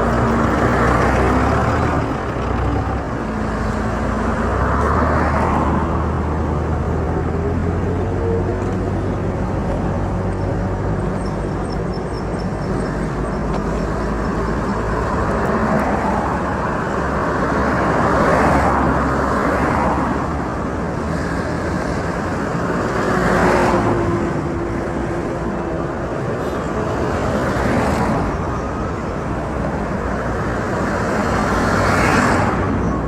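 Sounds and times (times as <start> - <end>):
traffic engine hum: 0.0 - 33.0
vehicles passing: 0.0 - 33.0.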